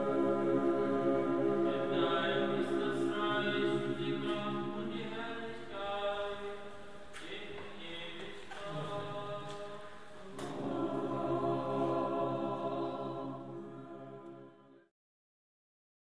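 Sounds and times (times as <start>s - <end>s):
choir singing a slow chant: 0.0s - 14.9s.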